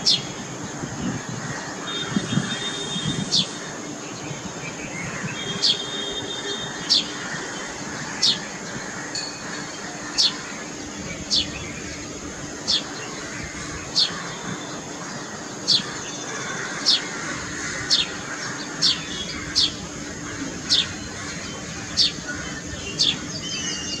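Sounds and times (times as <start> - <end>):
steady high-pitched whine: 0.0 - 24.0.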